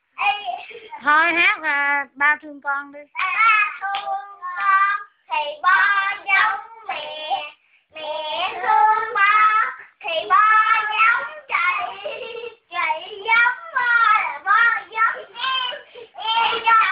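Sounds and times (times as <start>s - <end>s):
young children singing: 3.2s - 16.9s.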